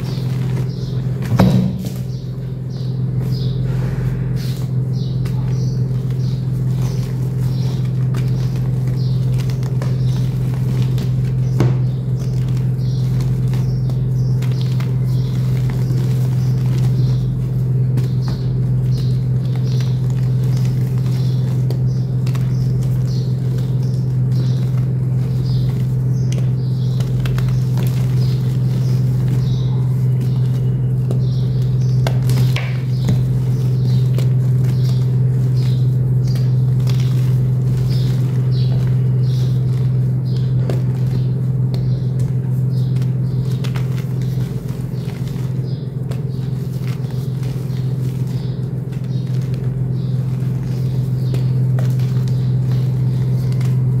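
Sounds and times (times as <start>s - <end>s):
loud steady low hum: 0.0s - 54.0s
chalk crunching by hand: 3.2s - 54.0s.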